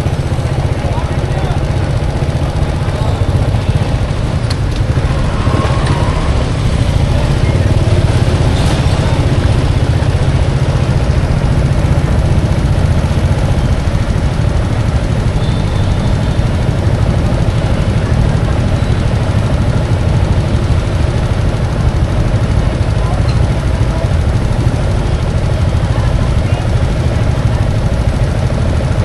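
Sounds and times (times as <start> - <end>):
low rumble of traffic: 0.0 - 29.0.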